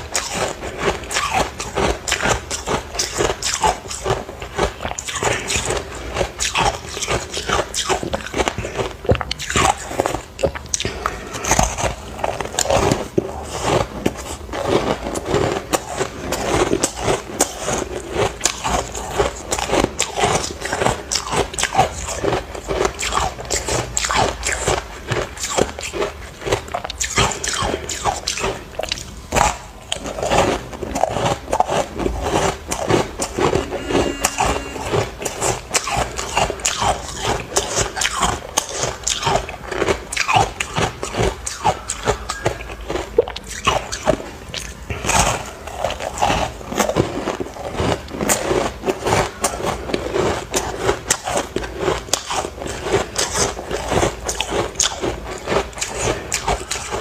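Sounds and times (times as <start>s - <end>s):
crunching ice: 0.0s - 57.0s.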